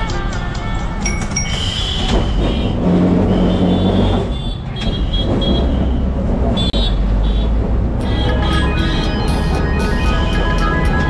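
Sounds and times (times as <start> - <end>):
traffic horn toots: 0.0 - 11.0
tram rumbling: 0.0 - 11.0.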